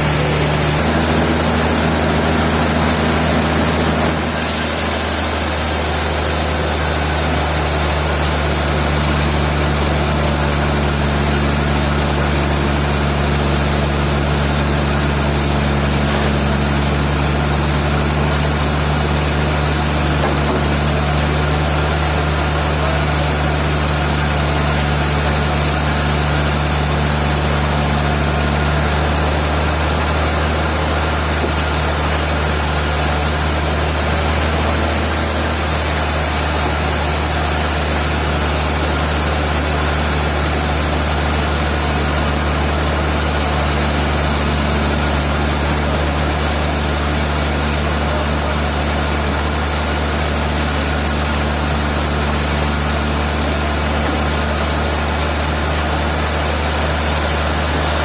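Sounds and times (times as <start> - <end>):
low machinery engine hum: 0.0 - 58.0.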